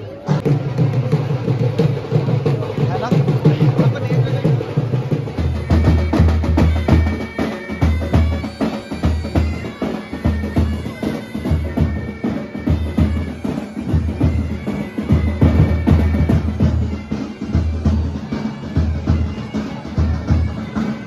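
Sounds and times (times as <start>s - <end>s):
bagpipes playing: 0.0s - 21.0s
snare drums: 0.3s - 21.0s.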